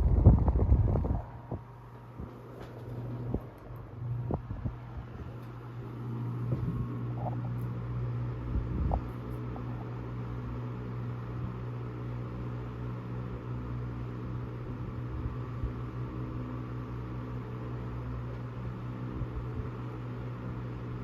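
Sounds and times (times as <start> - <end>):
table fan running: 0.0 - 21.0.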